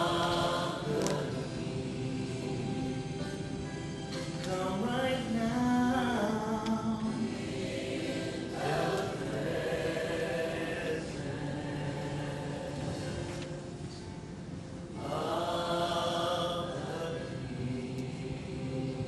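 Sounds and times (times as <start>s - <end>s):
choir singing held notes: 0.0s - 13.9s, 14.9s - 19.0s.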